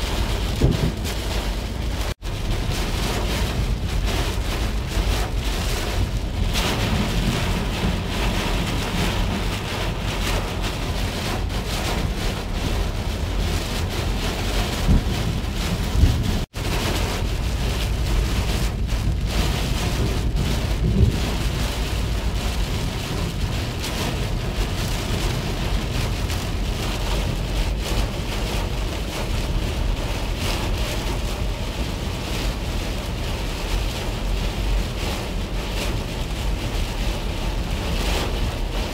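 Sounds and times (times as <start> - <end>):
heavy rain on a car windshield: 0.0 - 38.9
road and wind noise: 0.0 - 38.9.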